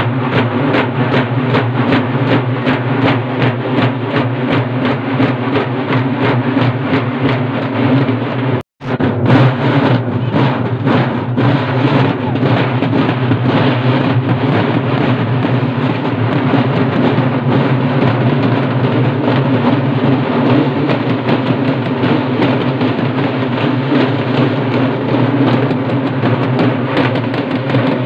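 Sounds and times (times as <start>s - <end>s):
folk drums fast beat: 0.0s - 28.0s.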